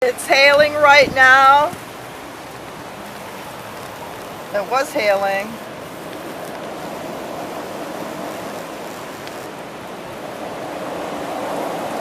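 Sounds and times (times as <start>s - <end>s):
rain: 0.0s - 12.0s
strong wind blowing: 0.0s - 12.0s.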